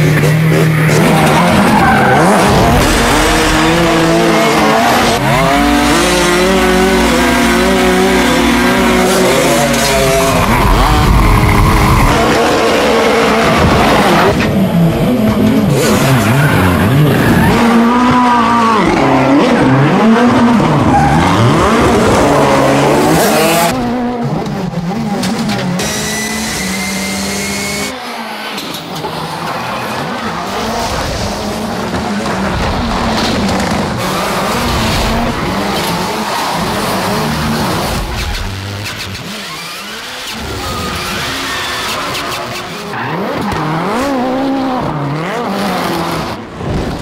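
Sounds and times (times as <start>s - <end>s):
tyres squealing and skidding: 0.0s - 14.3s, 15.7s - 23.7s, 25.6s - 32.5s, 33.4s - 46.2s
rally car engine revving: 0.0s - 47.0s.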